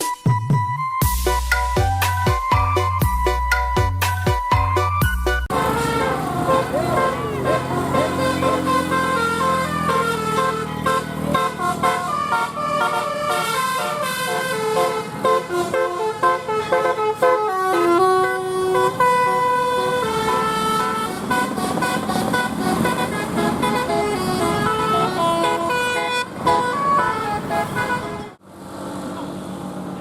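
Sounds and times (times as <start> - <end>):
musical bus horn: 1.1 - 28.4
bus engine running: 1.1 - 30.0.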